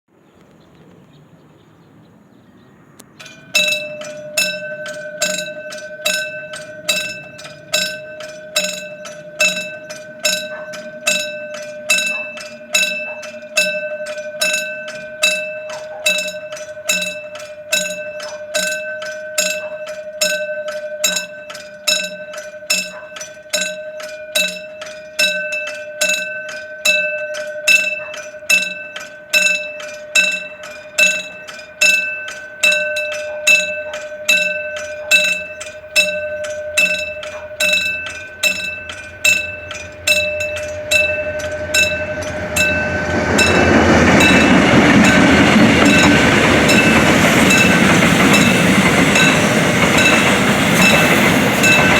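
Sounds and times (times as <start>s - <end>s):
freight train rumbling past: 0.1s - 51.9s
level crossing bell ringing: 3.2s - 51.9s.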